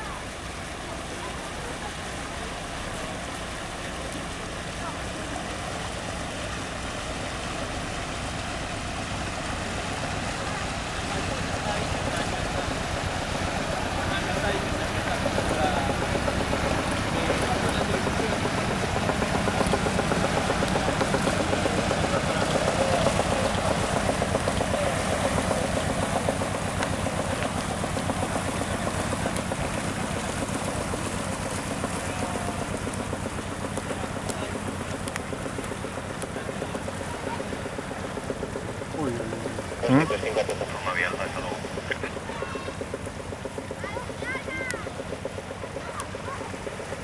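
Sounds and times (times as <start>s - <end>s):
light aircraft engine: 0.0s - 47.0s.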